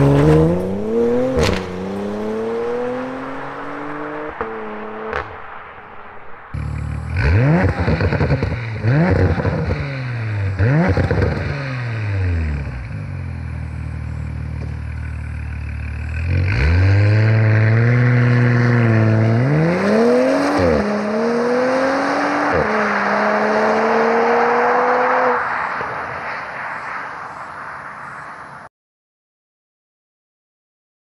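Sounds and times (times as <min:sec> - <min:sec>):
car engine revving and accelerating: 0:00.0 - 0:26.1.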